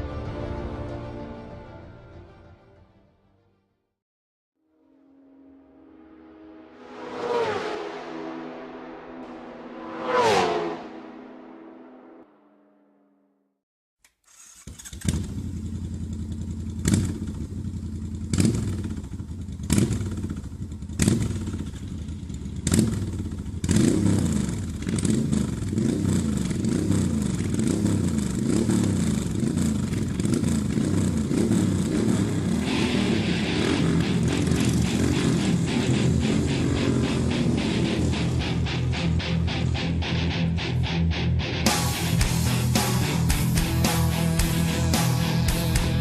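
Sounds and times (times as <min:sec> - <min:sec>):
motorcycle engine revving: 0:05.8 - 0:13.4, 0:14.3 - 0:46.0.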